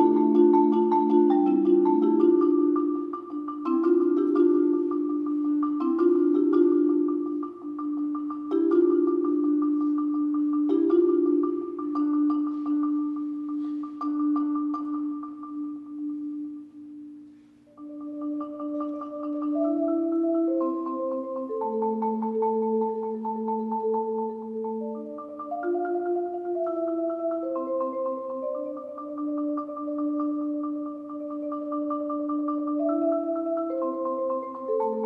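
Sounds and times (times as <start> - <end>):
marimba mallet rolls: 0.0 - 16.7, 17.8 - 35.0.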